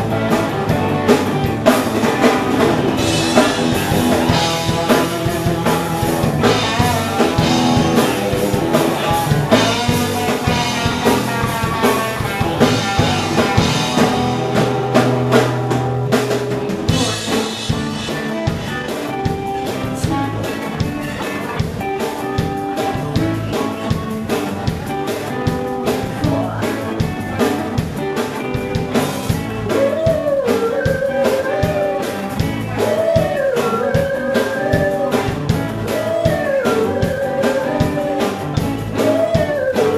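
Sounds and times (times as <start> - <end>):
bass guitar: 0.0 - 39.9
drum kit steady beat: 0.0 - 39.9
electric guitars: 0.0 - 39.9
wavering lead line: 0.0 - 39.9.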